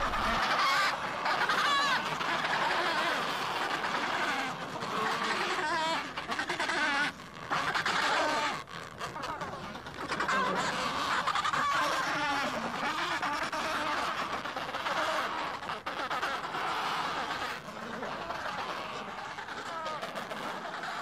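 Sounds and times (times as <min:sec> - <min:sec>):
penguins squawking in chorus: 0:00.0 - 0:21.0.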